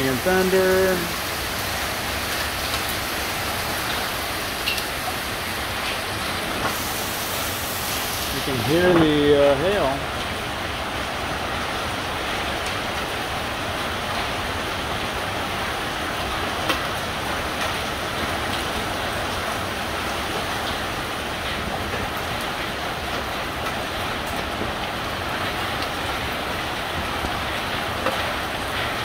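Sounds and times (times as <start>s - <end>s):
hailstones ticking: 0.0s - 29.0s
heavy rain hiss: 0.0s - 29.0s.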